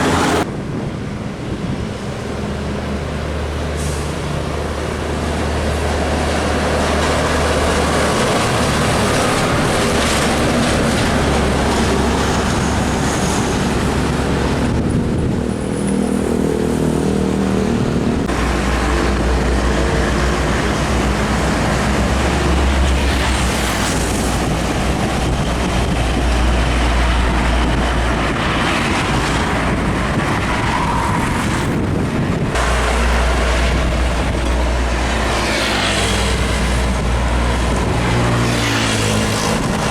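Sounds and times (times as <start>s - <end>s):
diesel trucks passing: 0.0s - 39.9s
steady traffic noise: 0.0s - 39.9s.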